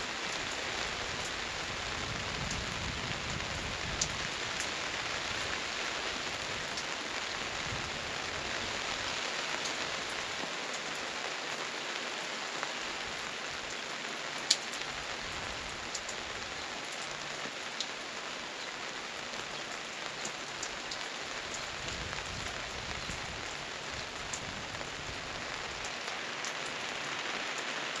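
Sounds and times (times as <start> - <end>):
gentle rain falling: 0.0 - 28.0
raindrops ticking: 0.0 - 28.0.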